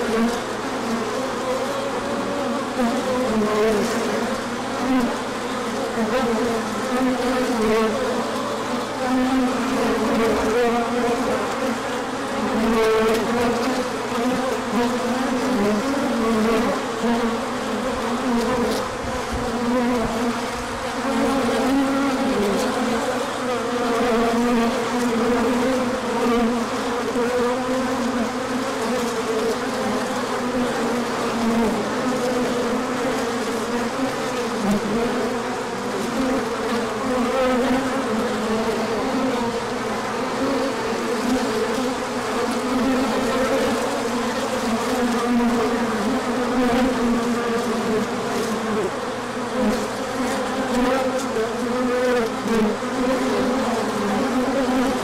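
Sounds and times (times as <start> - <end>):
honey bees buzzing: 0.0 - 55.0.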